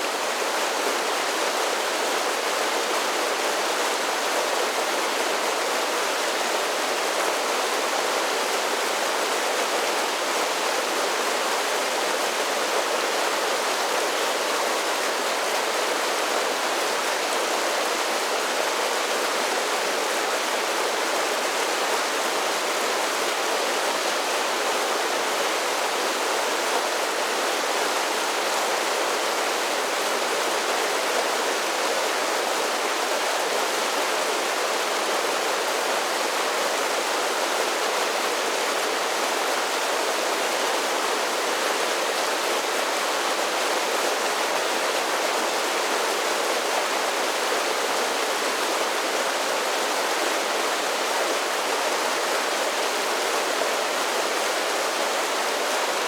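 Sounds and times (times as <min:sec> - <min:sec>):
creek water rushing over falls: 0:00.0 - 0:56.0.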